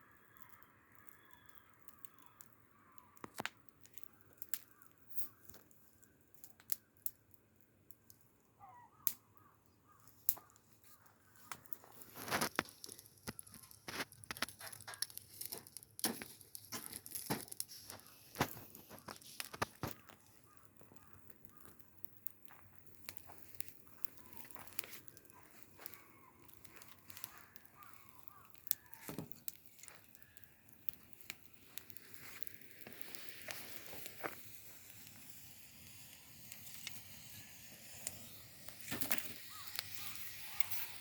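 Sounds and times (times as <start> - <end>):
bonfire crackling and popping: 0.0 - 41.0.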